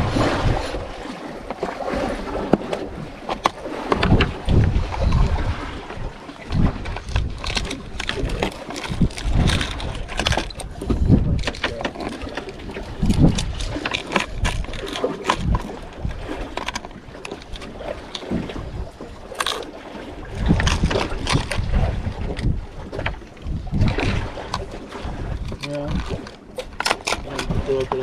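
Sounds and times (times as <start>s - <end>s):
water lapping against boat hull: 0.0s - 28.0s
wind buffeting microphone: 0.0s - 28.0s.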